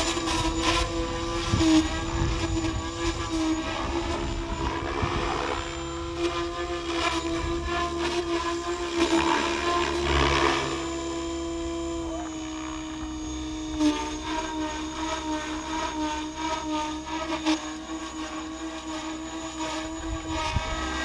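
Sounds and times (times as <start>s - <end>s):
electric helicopter whine: 0.0s - 21.0s
rotor blade chop: 0.0s - 21.0s.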